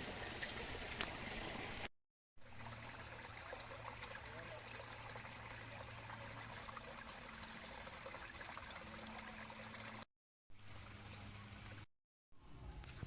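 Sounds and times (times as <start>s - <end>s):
small stream trickling: 0.0s - 11.9s.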